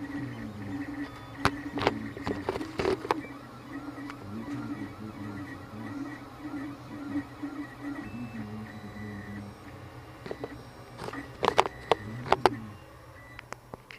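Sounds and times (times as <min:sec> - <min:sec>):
stepper motors whining: 0:00.0 - 0:13.4.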